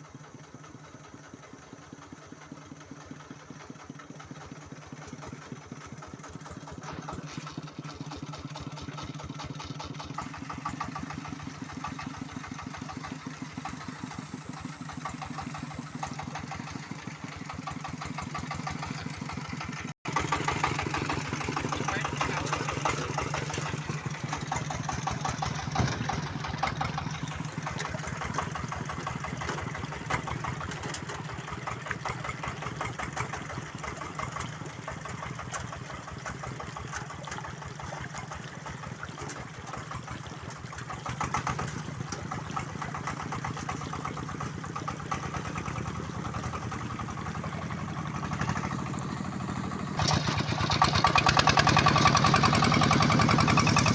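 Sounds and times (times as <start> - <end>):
diesel engine chugging: 0.0 - 53.9.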